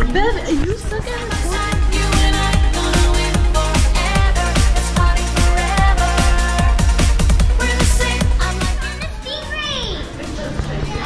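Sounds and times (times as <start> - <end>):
electronic dance music: 0.1 - 11.0.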